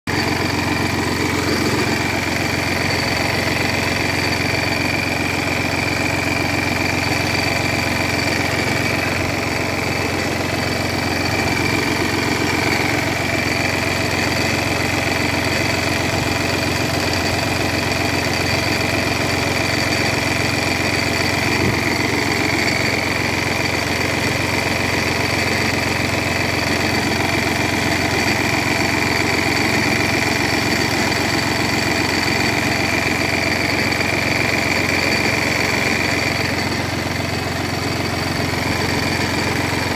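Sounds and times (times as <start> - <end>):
car engine idling: 0.0 - 39.9
alternator bearing whine: 0.1 - 39.9.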